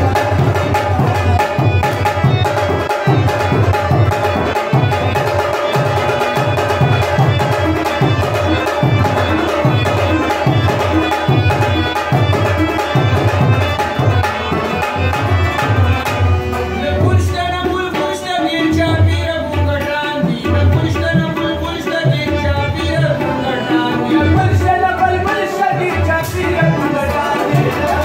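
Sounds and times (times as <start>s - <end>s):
hand drum beat: 0.0s - 17.4s, 20.2s - 28.0s
harmonium chords: 0.0s - 28.0s
man singing: 0.0s - 28.0s.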